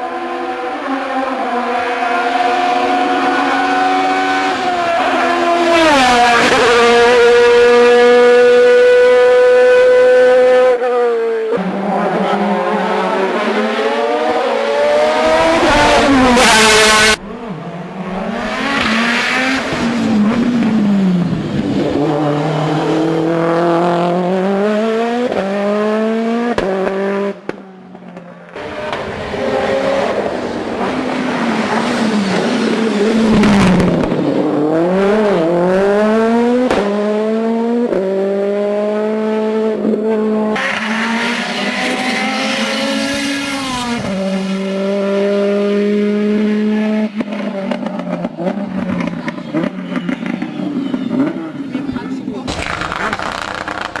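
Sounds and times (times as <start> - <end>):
racing car engines at full throttle: 0.0 - 54.0.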